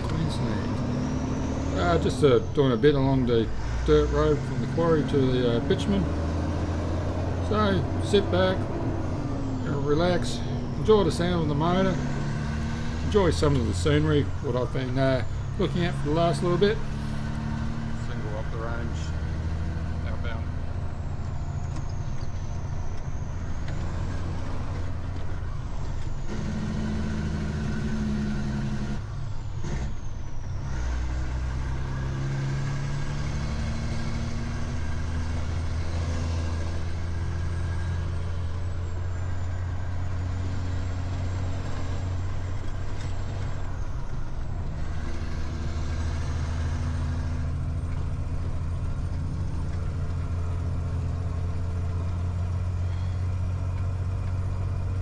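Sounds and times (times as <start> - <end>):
truck diesel engine under load: 0.0 - 55.0.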